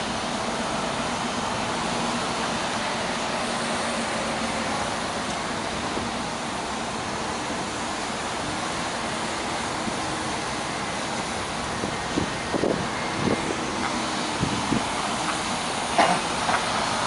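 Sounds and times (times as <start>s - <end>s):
buses driving past: 0.0s - 17.0s.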